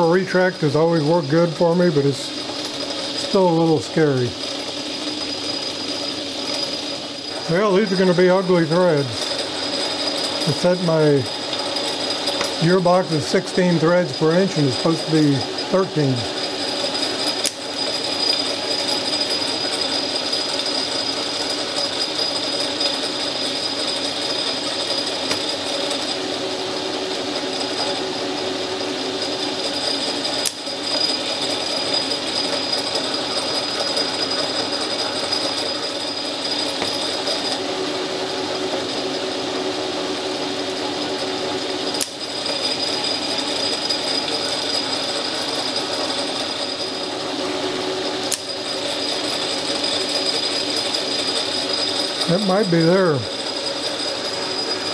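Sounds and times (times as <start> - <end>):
metal lathe whine and gear hum: 0.0 - 54.9.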